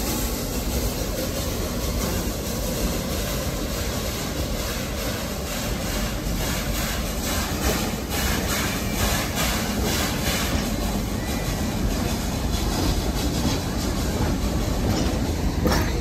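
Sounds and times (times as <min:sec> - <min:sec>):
steam locomotive chuffing: 0:00.0 - 0:16.0
train cars rumbling on track: 0:00.0 - 0:16.0.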